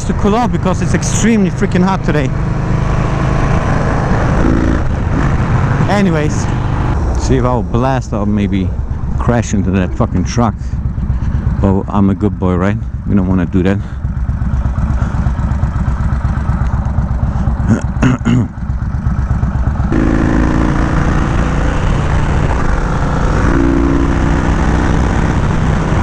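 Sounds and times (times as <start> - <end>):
motorcycle engine with loud exhaust: 0.0 - 26.0.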